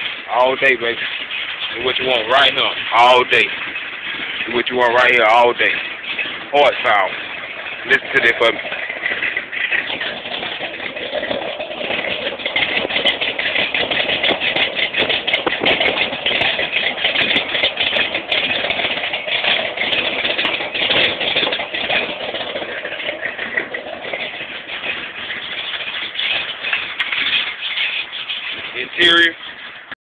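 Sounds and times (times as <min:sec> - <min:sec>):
pickup truck engine running: 0:00.0 - 0:30.0.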